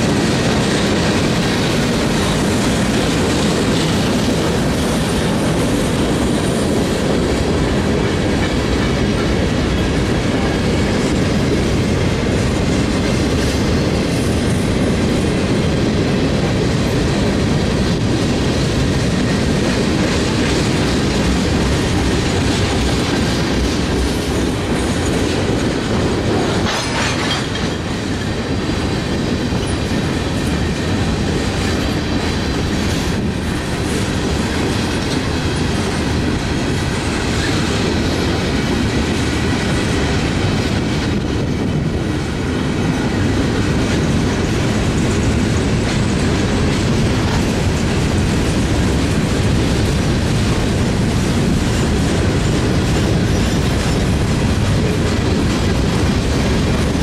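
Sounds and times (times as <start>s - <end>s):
steel wheels on rail: 0.0s - 57.0s.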